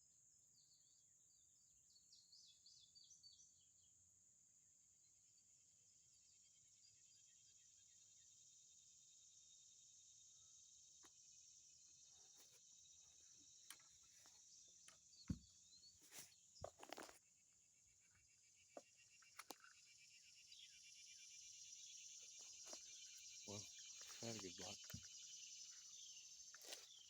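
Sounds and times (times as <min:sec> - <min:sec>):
insects chorus: 0:00.1 - 0:27.0.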